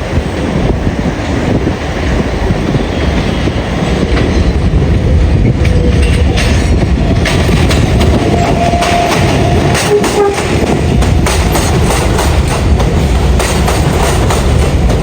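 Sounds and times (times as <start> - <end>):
subway train rumbling: 0.0 - 15.0
wheels clicking over rail joints: 2.5 - 15.0.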